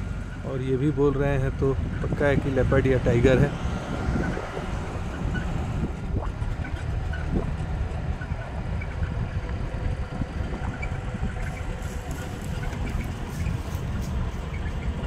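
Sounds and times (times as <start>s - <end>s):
vehicle rumbling on dirt track: 0.0s - 15.0s
wind buffeting microphone: 0.0s - 15.0s.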